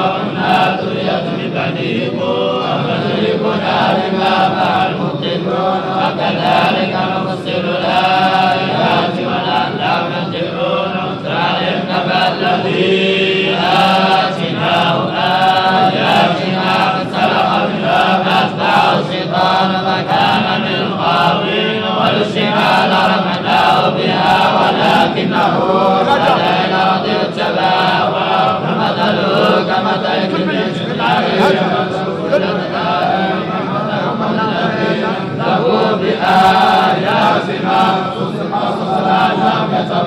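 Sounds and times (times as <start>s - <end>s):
men chanting together: 0.0s - 40.0s.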